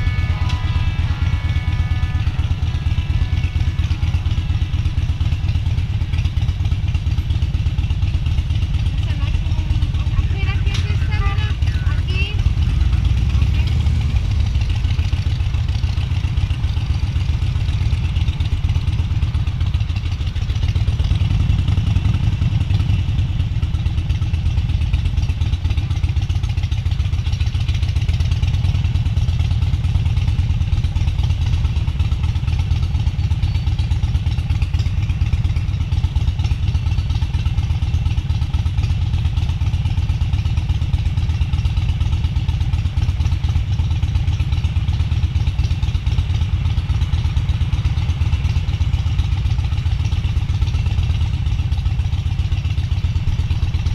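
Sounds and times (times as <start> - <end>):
motorcycle engine rumbling: 0.0 - 53.9.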